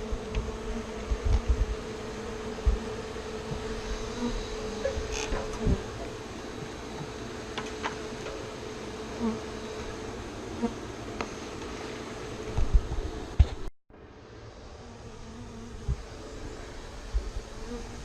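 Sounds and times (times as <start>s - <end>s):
honeybees buzzing: 0.0s - 13.4s, 14.2s - 18.0s.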